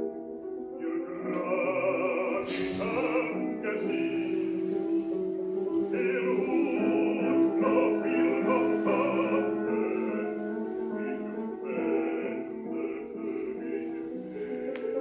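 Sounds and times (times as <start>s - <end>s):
musical accompaniment: 0.0s - 15.0s
person singing with vibrato: 0.6s - 15.0s.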